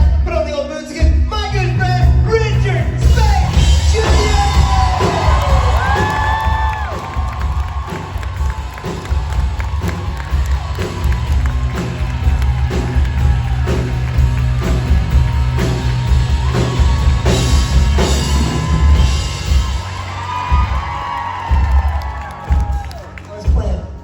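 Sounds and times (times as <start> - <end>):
rock music over sound system: 0.0 - 24.0
audience cheering and whooping: 3.4 - 23.9.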